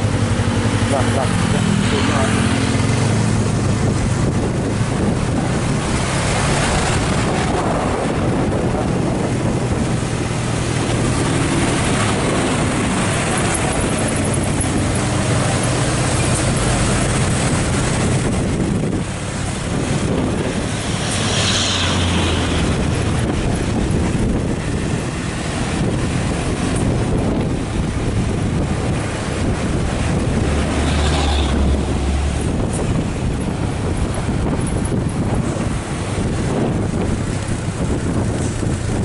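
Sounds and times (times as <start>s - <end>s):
truck diesel engine under load: 0.0s - 39.0s.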